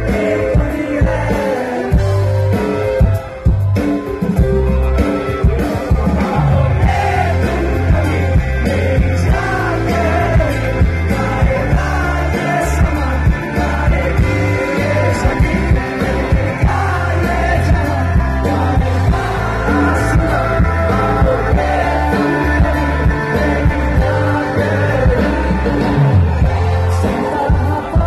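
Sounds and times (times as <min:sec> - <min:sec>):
person singing: 0:00.0 - 0:03.1, 0:04.2 - 0:28.0
live rock band playing: 0:00.0 - 0:28.0.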